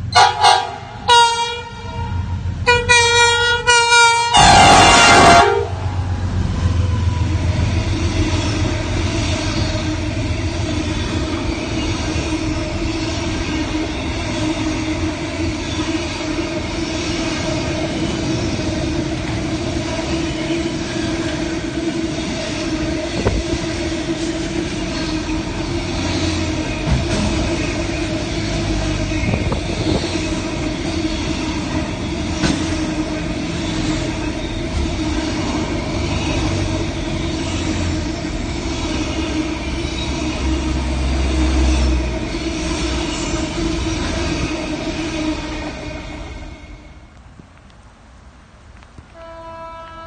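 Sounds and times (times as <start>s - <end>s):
train rail and wheel noise: 0.0s - 50.0s.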